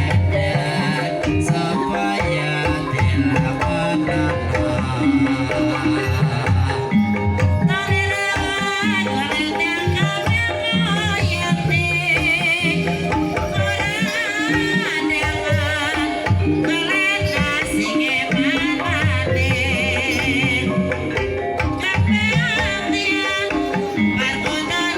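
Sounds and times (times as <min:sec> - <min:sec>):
metallophone tones: 0:00.0 - 0:24.9.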